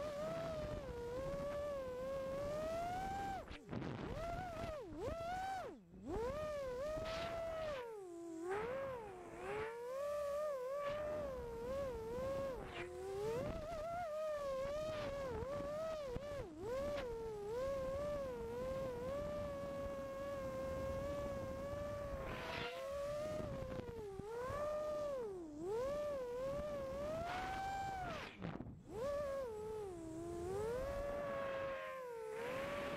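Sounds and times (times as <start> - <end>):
quadcopter motors whining: 0.0 - 32.9.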